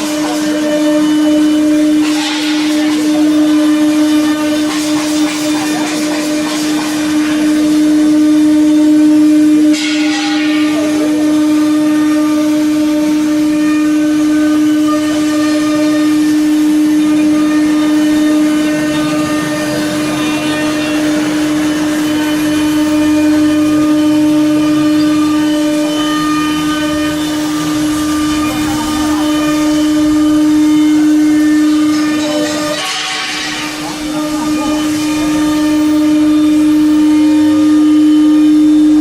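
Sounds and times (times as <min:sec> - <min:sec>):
router spindle whine: 0:00.0 - 0:39.0
tool cutting noise: 0:00.0 - 0:39.0.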